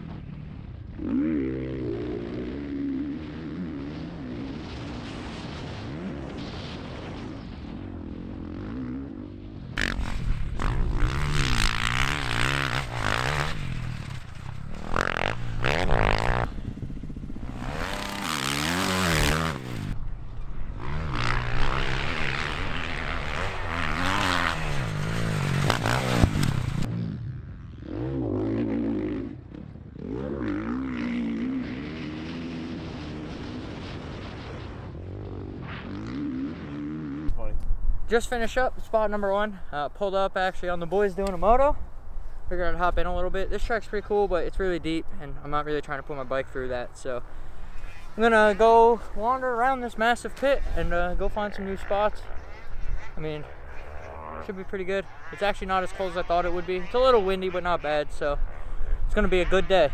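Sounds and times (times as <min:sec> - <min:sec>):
dirt bike engine revving: 0:00.0 - 0:37.5, 0:42.6 - 0:59.9.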